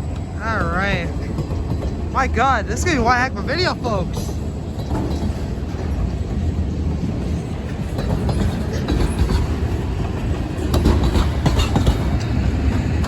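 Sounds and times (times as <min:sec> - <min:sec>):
freight train rumbling: 0:00.0 - 0:13.0
wheels clicking over rail joints: 0:00.0 - 0:13.0.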